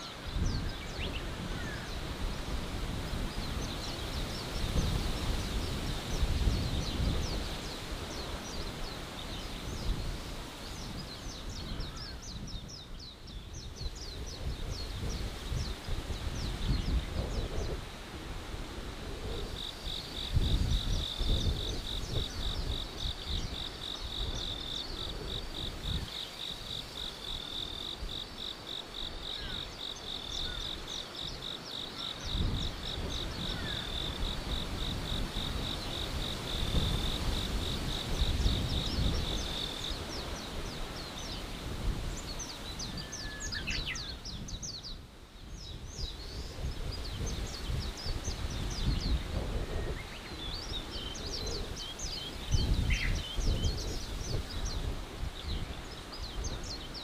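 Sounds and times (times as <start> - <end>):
wind gusts: 0.0 - 57.0.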